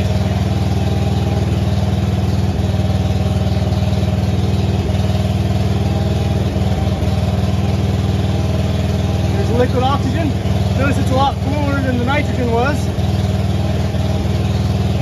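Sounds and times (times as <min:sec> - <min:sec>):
welder engine idling: 0:00.0 - 0:15.0.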